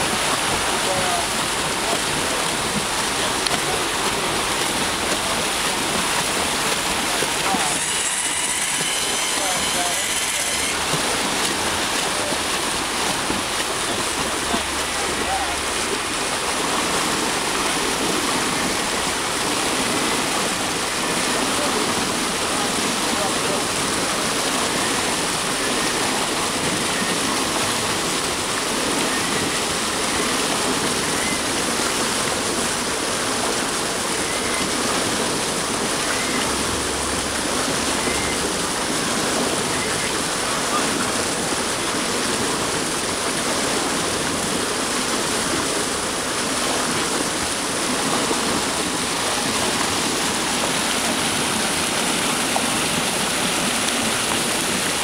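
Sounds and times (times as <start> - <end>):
water rushing over weir: 0.0 - 55.0.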